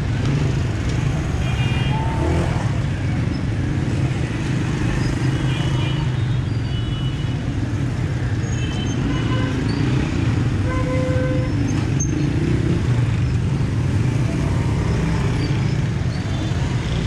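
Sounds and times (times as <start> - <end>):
motor traffic rumble: 0.0 - 17.0.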